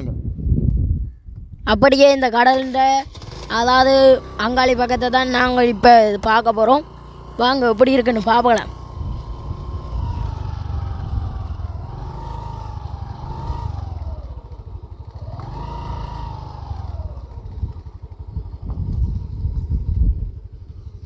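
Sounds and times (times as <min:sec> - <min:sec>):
wind buffeting microphone: 0:00.0 - 0:06.4, 0:08.1 - 0:21.0
distant small engine whining: 0:02.6 - 0:21.0.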